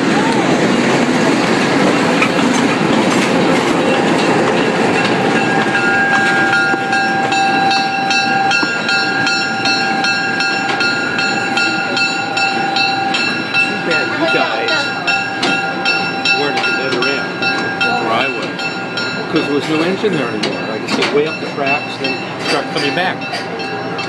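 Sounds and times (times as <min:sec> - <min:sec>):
diesel locomotive running: 0:00.0 - 0:24.0.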